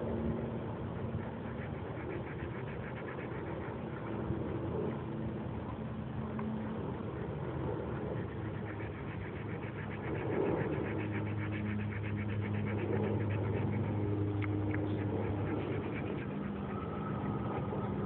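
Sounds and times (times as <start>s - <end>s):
rapid regular pulsing: 0.0s - 5.2s, 6.5s - 18.0s
engine humming: 0.0s - 18.0s.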